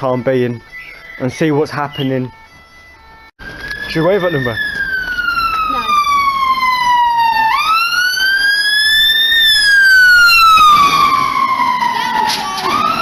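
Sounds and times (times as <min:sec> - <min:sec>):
siren wailing: 0:01.0 - 0:13.0.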